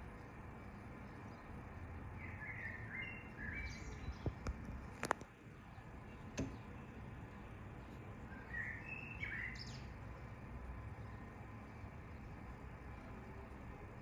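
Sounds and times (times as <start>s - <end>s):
background noise: 0.0s - 14.0s.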